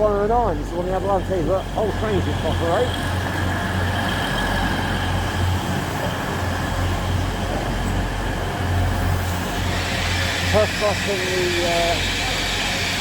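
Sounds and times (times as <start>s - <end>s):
train engine humming: 0.0s - 13.0s.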